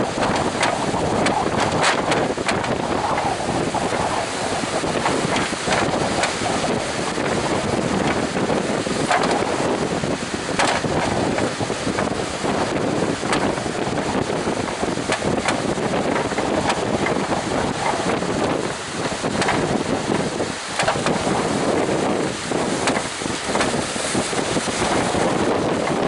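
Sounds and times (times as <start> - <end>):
heavy surf rushing: 0.0 - 26.0
wind buffeting microphone: 0.0 - 26.0.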